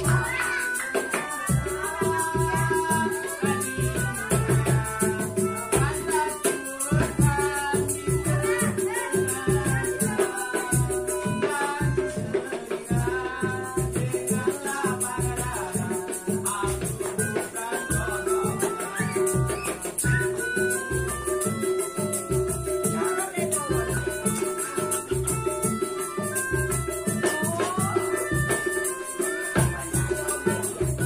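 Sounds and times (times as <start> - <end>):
melodica melody: 0.0 - 13.4, 14.0 - 31.0
hand-struck percussion: 0.0 - 31.0.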